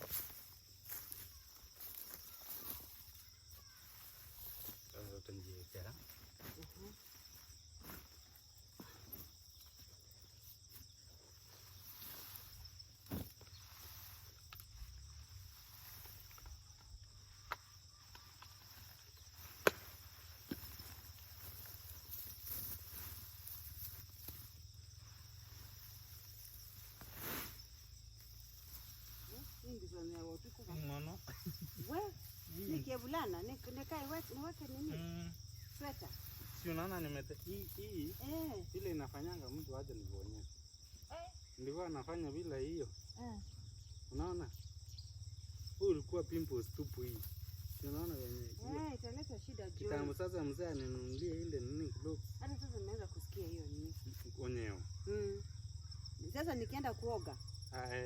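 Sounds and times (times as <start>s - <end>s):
footsteps and rustling in vegetation: 0.0s - 41.1s, 45.7s - 50.2s, 52.3s - 55.0s
insects chirring: 0.0s - 58.0s.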